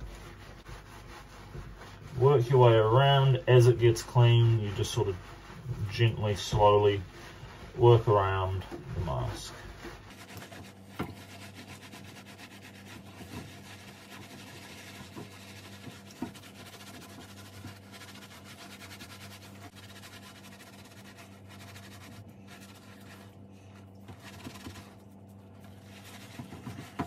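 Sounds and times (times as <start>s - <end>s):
loofah scrubbing wet fabric: 0.0s - 27.0s
low steady hum: 0.0s - 27.0s.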